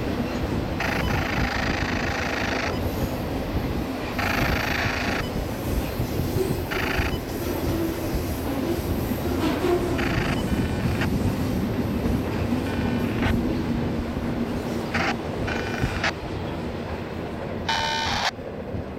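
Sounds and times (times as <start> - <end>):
freight train rumbling past: 0.0 - 17.7, 18.3 - 18.9.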